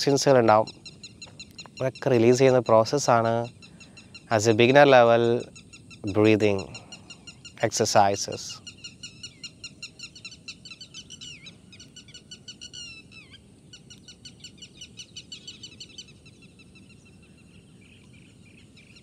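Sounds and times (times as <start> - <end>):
bird chirping fast: 0.0 - 19.0
faint outdoor background noise: 0.0 - 19.0.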